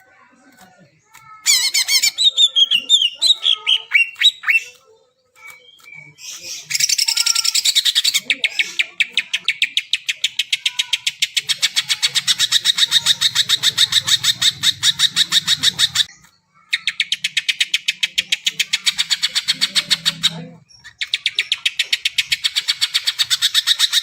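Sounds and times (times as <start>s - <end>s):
bird whistling and trilling: 1.5s - 24.0s.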